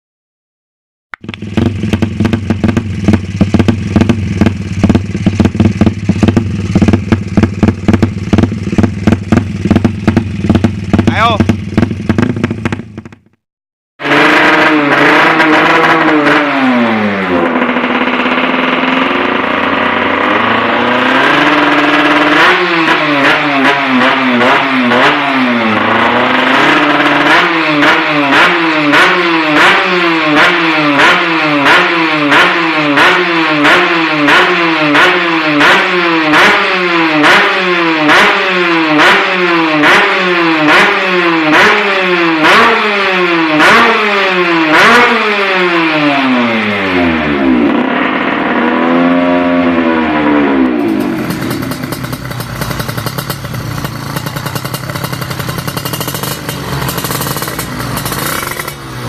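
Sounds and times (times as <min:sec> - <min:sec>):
motorcycle engine revving: 0:01.2 - 0:13.4, 0:14.0 - 0:59.0.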